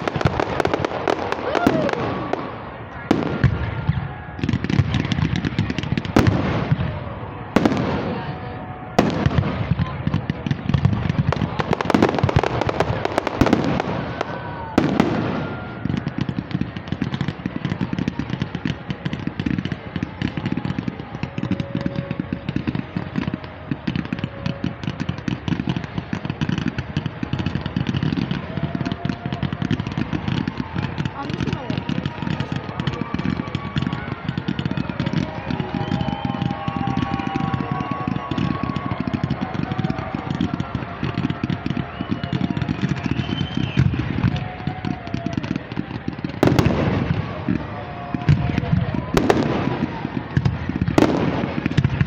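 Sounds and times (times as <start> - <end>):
dense firework crackling: 0.0 - 52.0.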